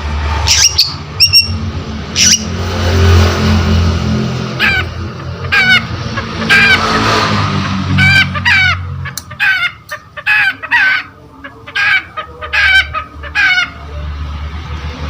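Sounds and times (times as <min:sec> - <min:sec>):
bird harsh rasping calls: 0:00.3 - 0:03.2, 0:04.4 - 0:14.0.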